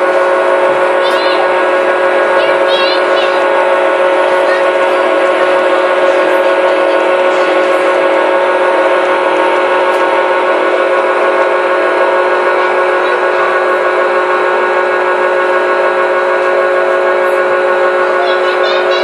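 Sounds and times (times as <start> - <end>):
model train rolling past: 0.0 - 19.0.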